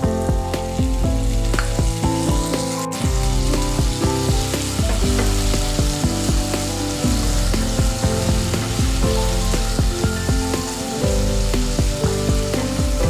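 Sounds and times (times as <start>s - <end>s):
background music with steady beat: 0.0s - 13.0s
vegetables sizzling in hot oil: 0.0s - 13.0s.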